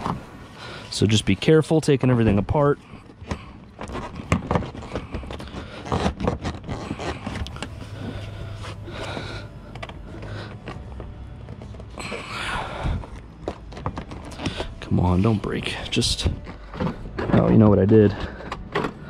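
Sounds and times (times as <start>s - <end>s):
plastic scraping: 0.0s - 19.0s.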